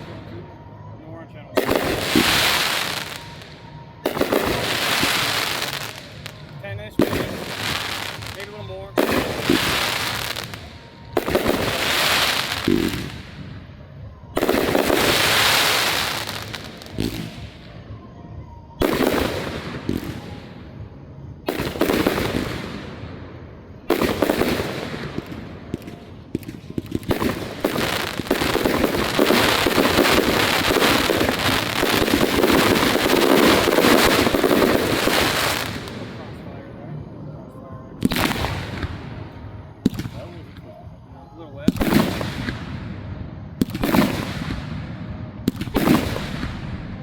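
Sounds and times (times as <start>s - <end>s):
fireworks crackling and popping: 0.0s - 17.9s, 18.8s - 47.0s
fireworks banging: 1.4s - 18.0s, 18.8s - 41.0s, 41.6s - 47.0s.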